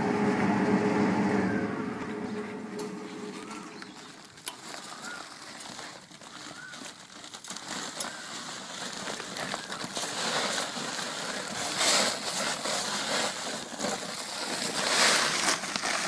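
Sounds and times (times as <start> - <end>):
plastic sack crinkling: 2.8 - 16.0.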